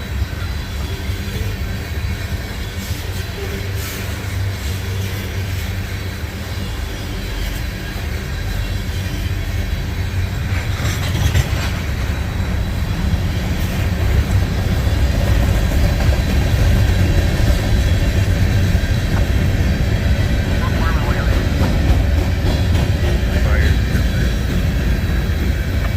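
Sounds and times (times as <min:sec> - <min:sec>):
freight train rumbling by: 0:00.0 - 0:25.9.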